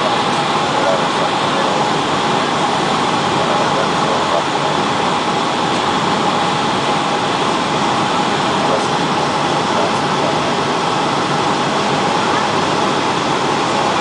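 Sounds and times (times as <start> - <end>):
aircraft cabin engine rush: 0.0 - 14.0.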